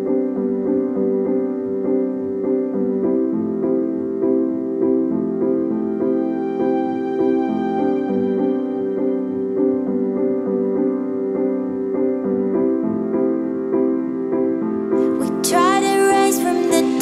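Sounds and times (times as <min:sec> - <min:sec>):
calm piano music: 0:00.0 - 0:17.0.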